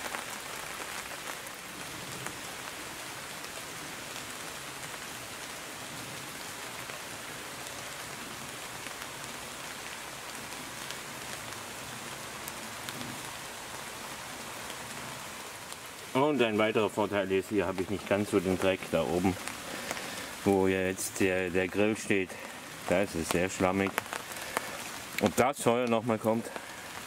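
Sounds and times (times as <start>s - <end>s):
rain falling steadily: 0.0s - 27.0s.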